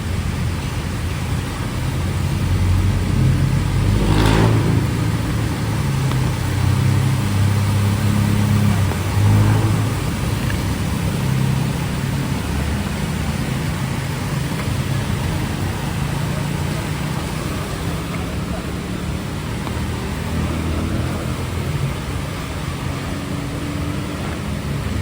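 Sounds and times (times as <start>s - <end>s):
traffic engines humming: 0.0s - 25.0s
vehicle passing close: 0.0s - 25.0s.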